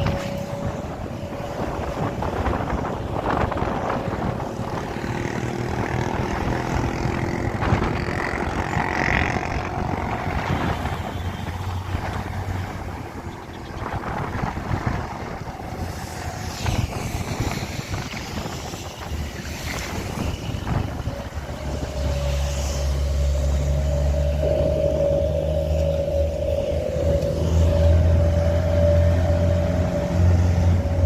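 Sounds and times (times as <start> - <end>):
truck engine droning: 0.0 - 31.0.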